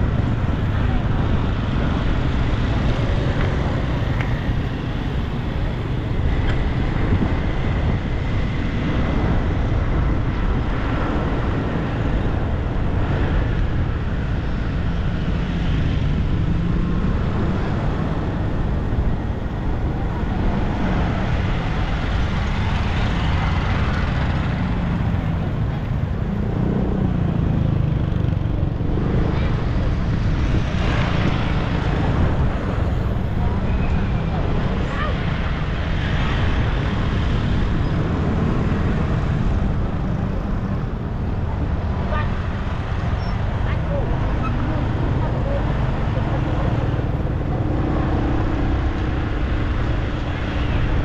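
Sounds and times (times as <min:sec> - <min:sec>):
motorbikes and cars passing: 0:00.0 - 0:51.0.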